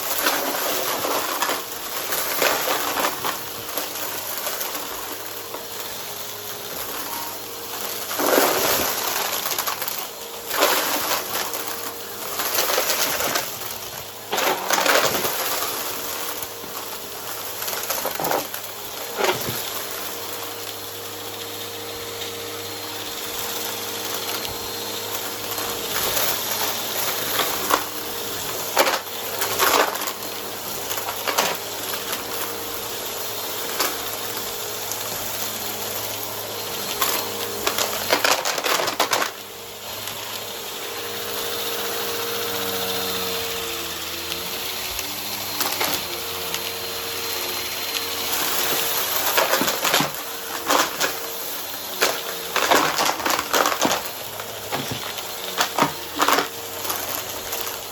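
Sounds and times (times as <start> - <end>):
debris crackling in vacuum: 0.0 - 57.9
vacuum cleaner motor hum: 0.0 - 57.9.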